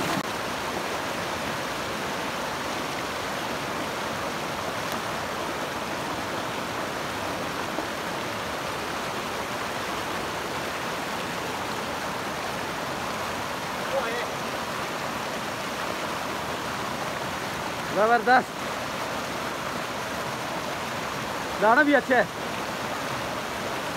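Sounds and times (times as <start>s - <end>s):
stream water rushing: 0.0s - 23.9s.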